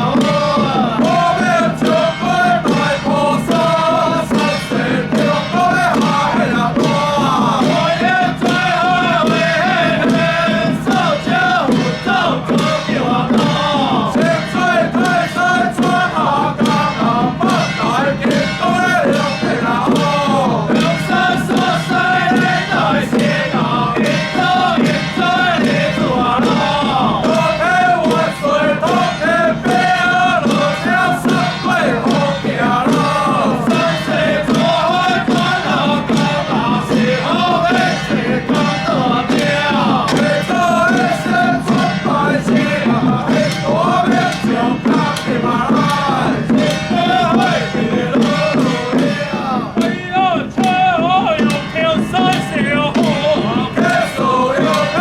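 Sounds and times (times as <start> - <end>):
group chanting in unison: 0.0 - 55.0
percussion strikes: 0.0 - 55.0.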